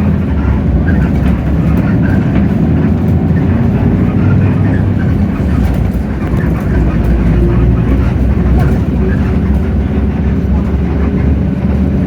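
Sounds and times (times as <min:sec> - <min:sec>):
bus diesel engine running: 0:00.0 - 0:12.0
road noise: 0:00.0 - 0:12.0.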